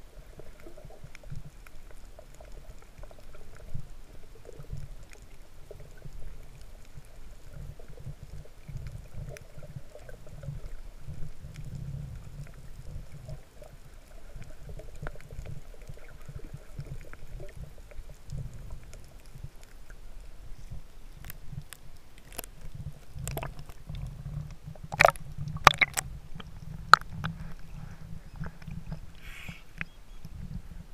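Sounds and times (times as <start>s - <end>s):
faint clicks and crackles: 0.0s - 30.9s
muffled underwater churning rumble: 0.0s - 30.9s.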